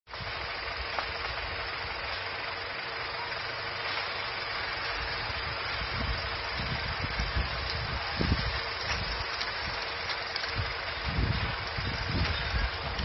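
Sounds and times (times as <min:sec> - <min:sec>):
constant hiss: 0:00.1 - 0:13.0
faint steady whine: 0:00.1 - 0:13.0
loader engine running: 0:00.1 - 0:13.0.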